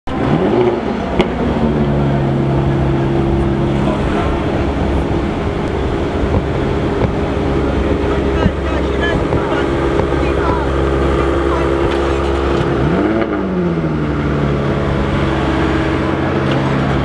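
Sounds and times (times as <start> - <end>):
car engines idling: 0.1 - 17.0.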